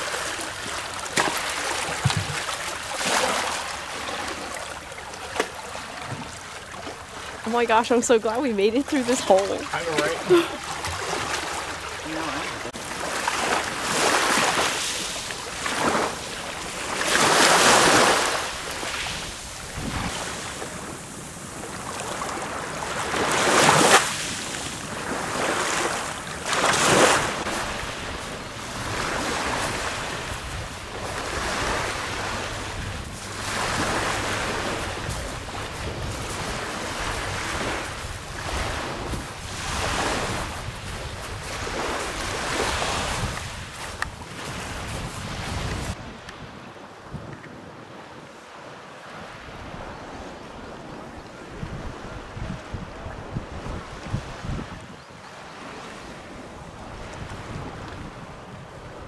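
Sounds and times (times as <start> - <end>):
small waves washing on shore: 0.0 - 59.0.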